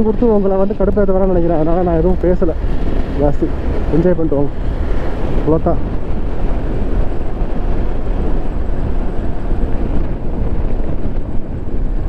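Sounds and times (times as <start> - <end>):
road and vehicle noise: 0.0 - 12.0
wind rushing over microphone: 0.0 - 12.0.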